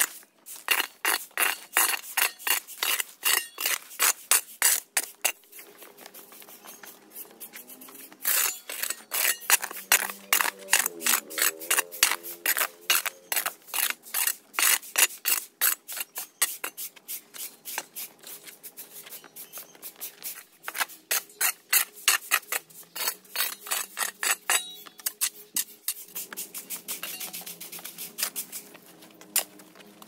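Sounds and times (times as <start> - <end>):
quick scraping strokes: 0.0 - 24.5, 25.1 - 29.5.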